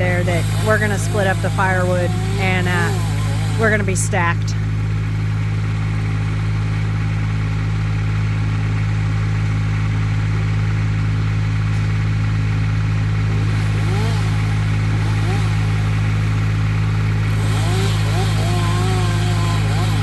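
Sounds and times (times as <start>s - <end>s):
machinery engine low hum: 0.0s - 20.0s.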